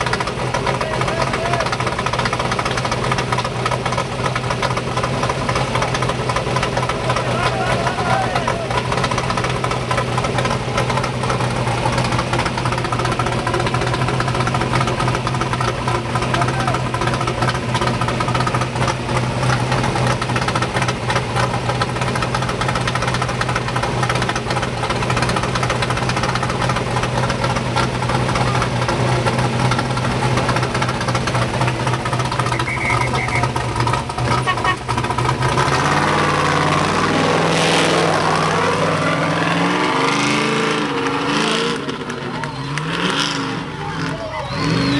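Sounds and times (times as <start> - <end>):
race engine idling and revving: 0.0 - 44.9.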